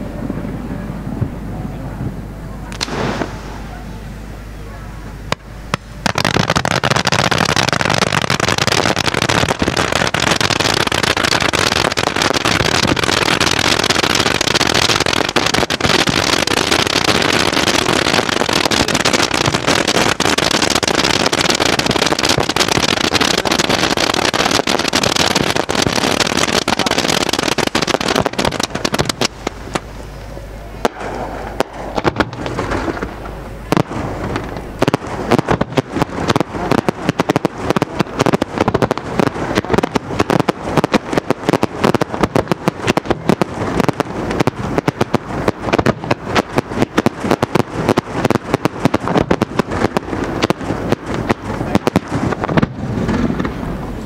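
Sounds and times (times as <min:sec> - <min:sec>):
firework fountains hissing: 0:00.0 - 0:54.0
firework crackling pops: 0:02.7 - 0:03.7, 0:05.3 - 0:54.0.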